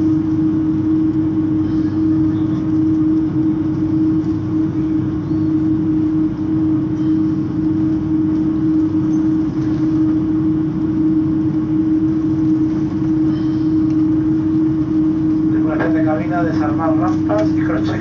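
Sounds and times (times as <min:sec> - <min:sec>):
aircraft engines idling: 0:00.0 - 0:18.0
cabin air: 0:00.0 - 0:18.0
constant low hum: 0:00.0 - 0:18.0.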